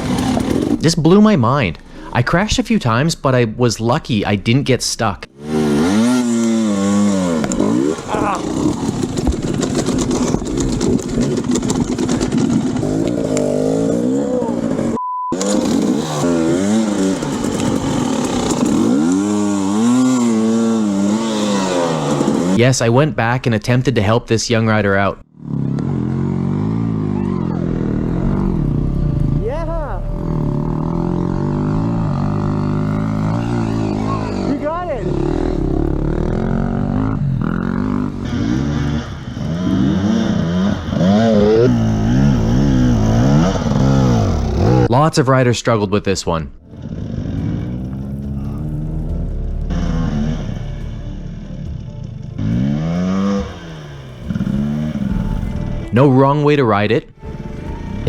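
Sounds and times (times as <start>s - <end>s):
dirt bike engine revving: 0.0s - 1.2s, 5.3s - 22.6s, 25.2s - 44.9s, 46.6s - 56.1s.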